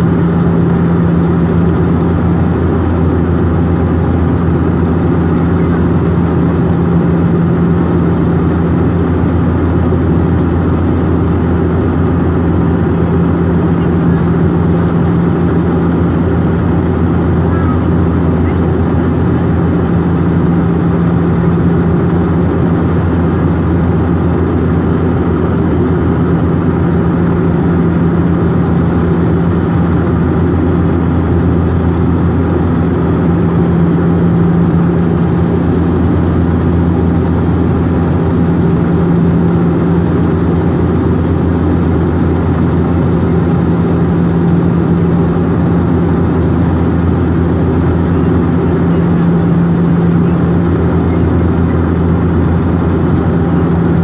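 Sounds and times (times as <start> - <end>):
airliner engine drone in cabin: 0.0 - 54.0.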